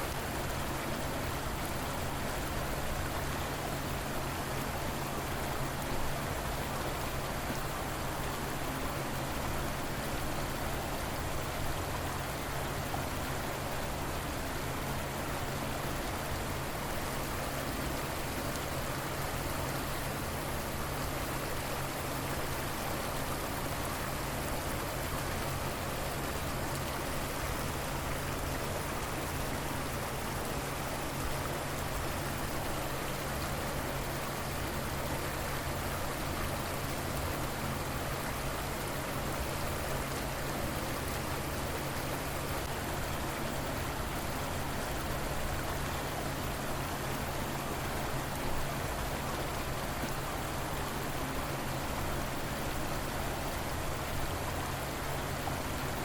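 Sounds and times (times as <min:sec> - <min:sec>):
river rushing and burbling: 0:00.0 - 0:56.0.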